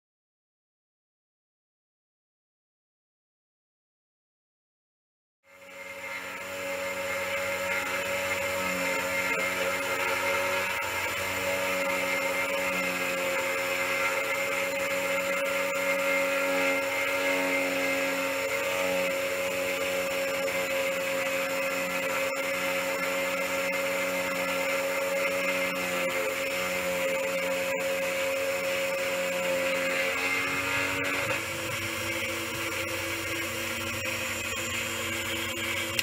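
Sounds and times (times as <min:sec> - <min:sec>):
key cutting machine grinding: 0:05.5 - 0:36.0.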